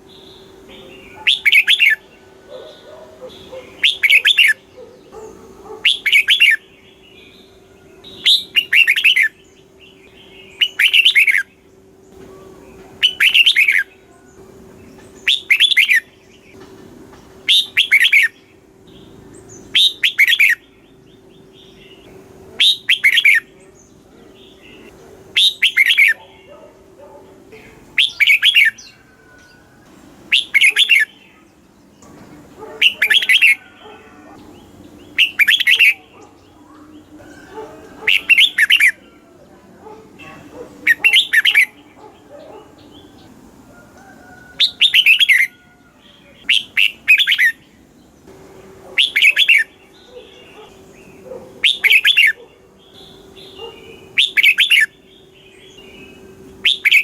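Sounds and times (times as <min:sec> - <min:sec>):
bird singing warbled phrase: 0:00.0 - 0:16.6, 0:17.3 - 0:57.0.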